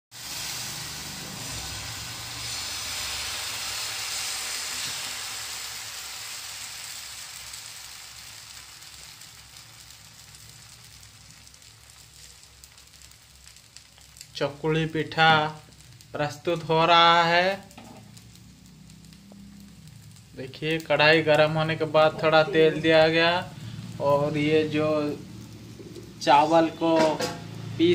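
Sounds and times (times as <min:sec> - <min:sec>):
batter sizzling in a pan: 0:00.1 - 0:27.9.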